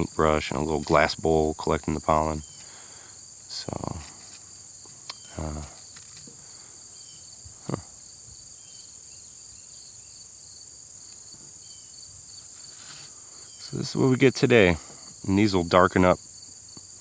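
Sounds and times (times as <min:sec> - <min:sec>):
high-pitched insect chorus: 0:00.0 - 0:17.0
pulsing insect trill: 0:00.0 - 0:17.0.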